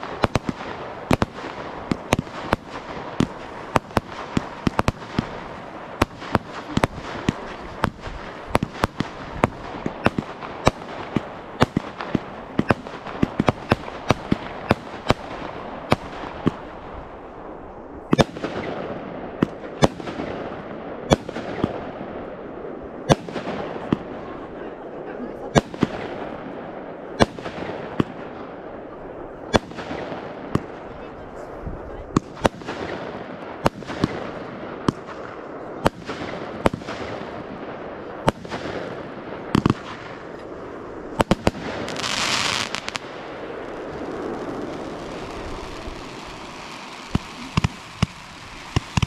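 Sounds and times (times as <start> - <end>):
fireworks crackle: 0.0 - 20.5, 29.4 - 49.0
fireworks bangs: 0.0 - 49.0.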